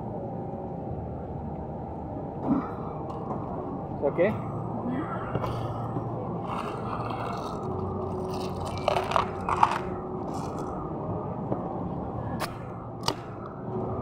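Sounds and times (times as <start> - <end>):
busy food court hum: 0.0 - 14.0.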